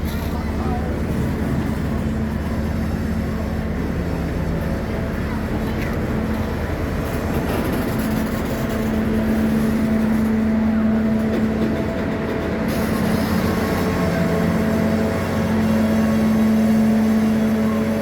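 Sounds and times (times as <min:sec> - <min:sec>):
diesel train running: 0:00.0 - 0:18.0.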